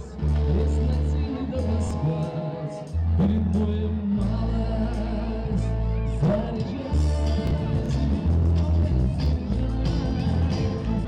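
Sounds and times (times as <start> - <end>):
song with bass line and melody: 0.0 - 11.0.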